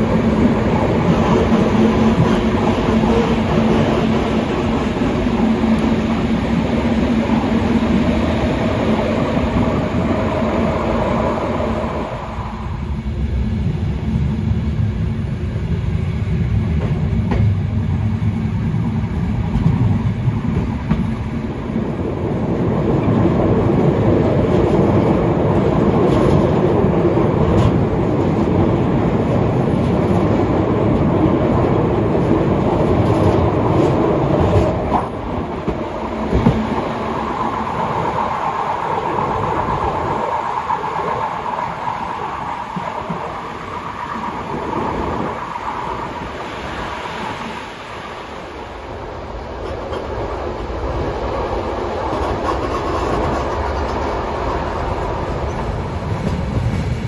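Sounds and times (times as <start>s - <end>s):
train wheels rumbling on track: 0.0s - 57.0s.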